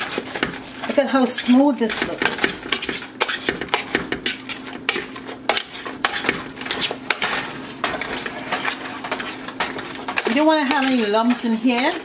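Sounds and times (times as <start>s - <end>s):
utensil scraping and clanking in pot: 0.0s - 12.0s.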